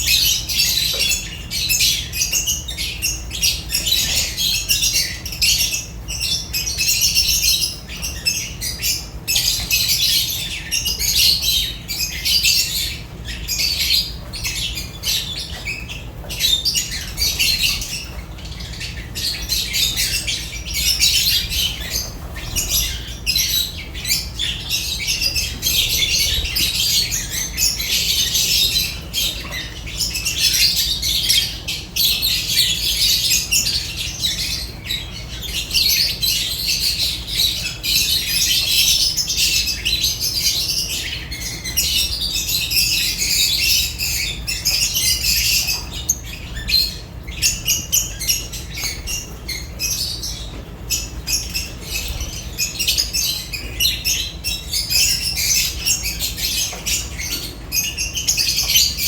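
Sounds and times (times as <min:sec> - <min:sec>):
birds chirping and squawking: 0:00.0 - 0:59.0
steady low hum: 0:00.0 - 0:59.0.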